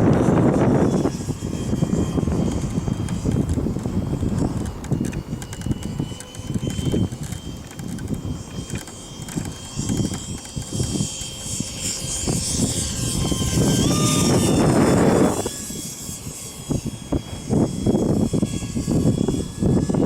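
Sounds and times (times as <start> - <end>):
electric ducted fan whining: 0.0 - 20.0
wind buffeting microphone: 0.0 - 20.0.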